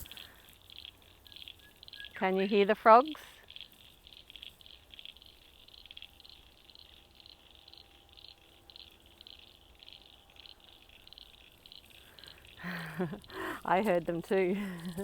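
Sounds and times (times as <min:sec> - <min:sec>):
frogs calling: 0:00.0 - 0:13.8.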